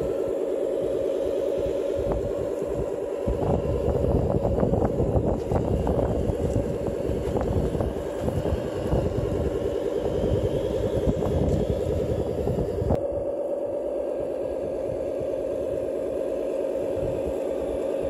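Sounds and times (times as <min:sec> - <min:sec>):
model truck motor drone: 0:00.0 - 0:18.0.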